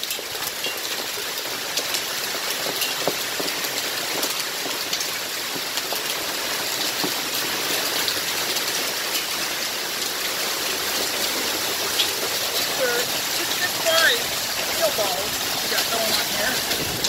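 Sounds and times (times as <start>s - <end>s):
hailstones striking: 0.0s - 17.0s
heavy rain hissing: 1.0s - 17.0s.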